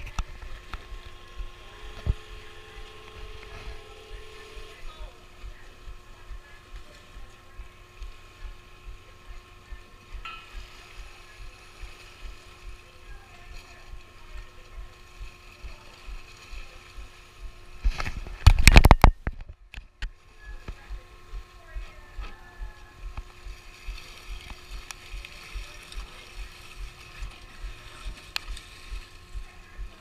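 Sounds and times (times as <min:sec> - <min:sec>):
motor running with low throb: 0:00.0 - 0:30.0
rush of noise on microphone: 0:00.0 - 0:30.0.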